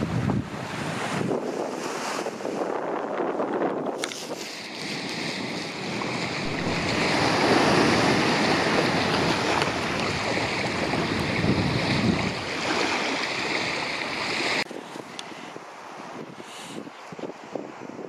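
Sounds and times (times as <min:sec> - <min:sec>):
sea waves breaking: 0:00.0 - 0:18.0
wind on microphone: 0:00.0 - 0:18.0.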